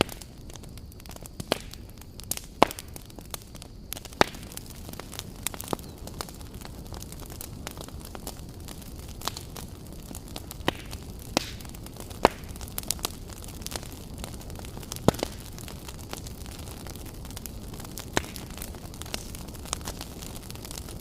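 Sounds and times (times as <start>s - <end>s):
fire crackles and pops: 0.0s - 21.0s
low rumble of flames: 0.0s - 21.0s.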